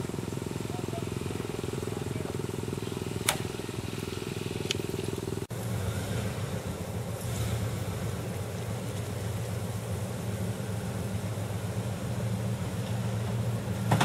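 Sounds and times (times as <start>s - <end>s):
pickup truck engine running: 0.0s - 14.0s.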